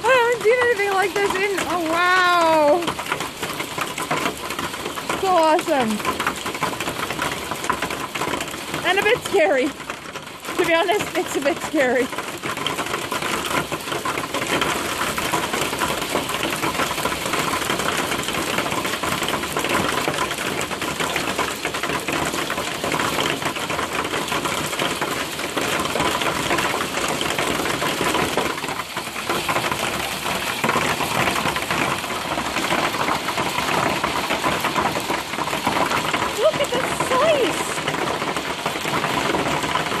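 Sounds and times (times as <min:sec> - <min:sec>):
hail clattering on roof: 0:00.0 - 0:40.0.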